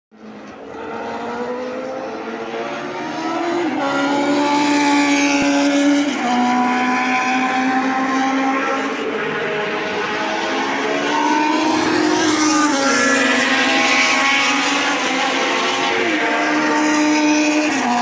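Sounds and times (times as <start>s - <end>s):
racing car engine at high revs: 0.2s - 18.0s.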